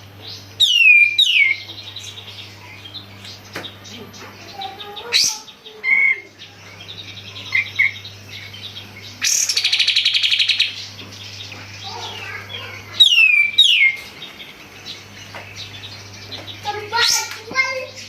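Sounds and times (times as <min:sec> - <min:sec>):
faint low hum: 0:00.0 - 0:18.0
songbird trilling and whistling: 0:00.2 - 0:18.0.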